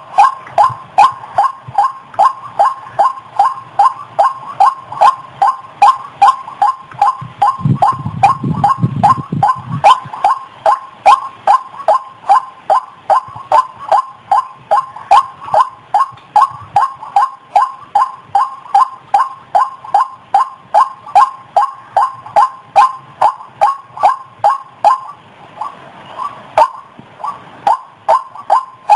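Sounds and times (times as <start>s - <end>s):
low rumble: 0.0s - 28.9s
waterhen calling: 0.0s - 28.9s.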